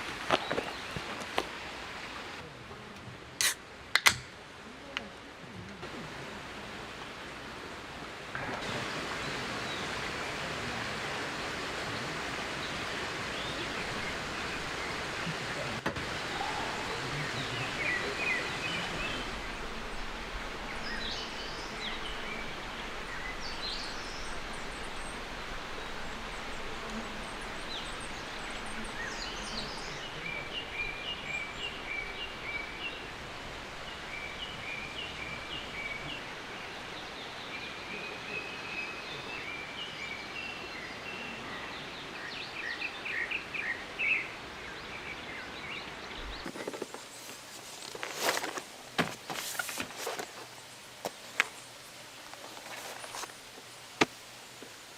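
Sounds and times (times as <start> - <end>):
small birds chirping: 0.0 - 2.4, 11.3 - 54.9
steady rushing hiss: 0.0 - 41.2, 41.9 - 54.9.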